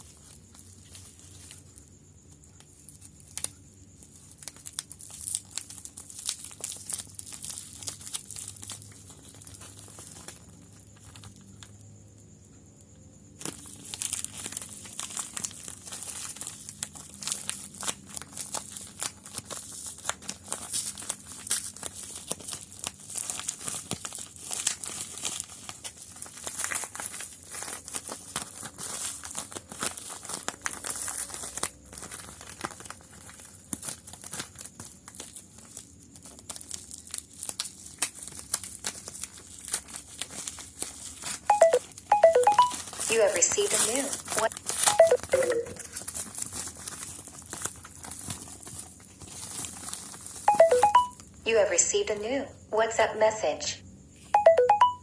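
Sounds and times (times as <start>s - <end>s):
packaging crinkling and tearing: 2.6s - 11.7s, 13.4s - 42.1s, 42.7s - 45.0s, 45.7s - 50.5s.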